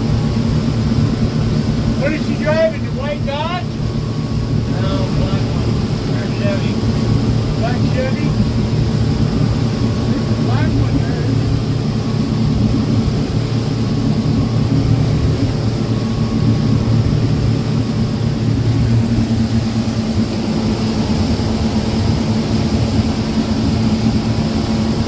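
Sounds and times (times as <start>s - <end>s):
motorboat engine droning: 0.0s - 25.0s
wind and water rushing: 0.0s - 25.0s.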